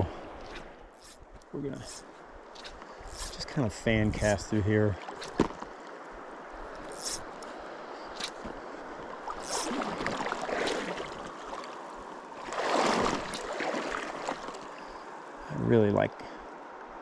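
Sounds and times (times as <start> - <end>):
water sloshing: 0.0 - 15.0.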